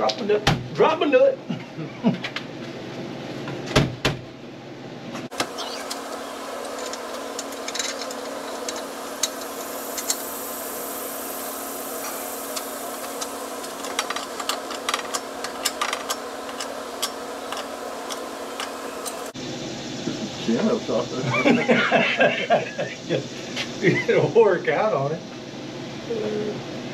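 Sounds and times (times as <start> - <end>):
steady background hum: 0.0 - 26.9.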